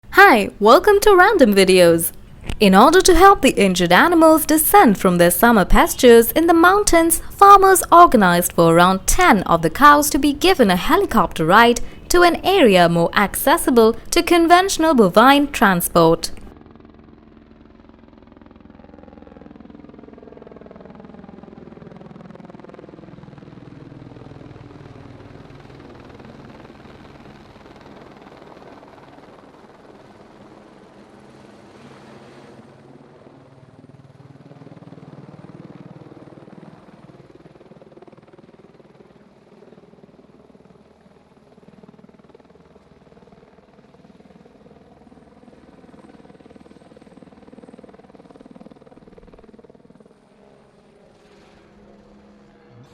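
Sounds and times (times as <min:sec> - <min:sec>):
helicopter rotor and engine: 0:00.1 - 0:52.9.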